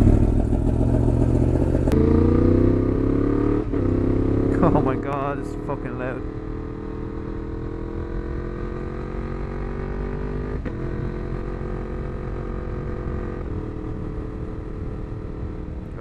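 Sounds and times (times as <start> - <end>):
motorcycle engine at steady throttle: 0.0 - 16.0.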